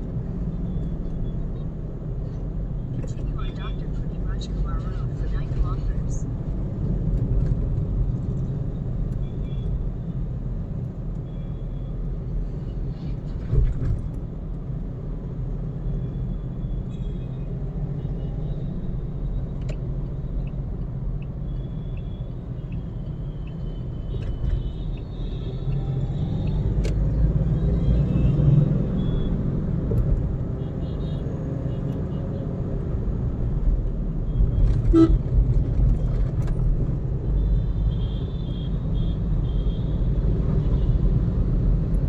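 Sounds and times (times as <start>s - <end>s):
car tyre and engine rumble: 0.0s - 42.0s.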